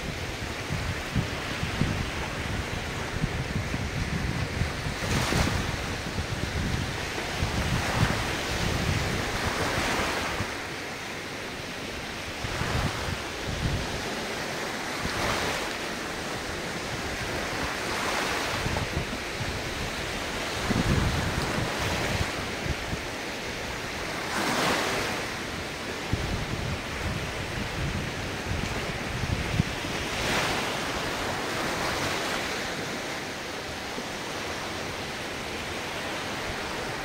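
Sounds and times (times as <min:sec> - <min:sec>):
wind buffeting microphone: 0:00.0 - 0:10.8, 0:12.0 - 0:37.0
waves breaking on shore: 0:00.0 - 0:37.0.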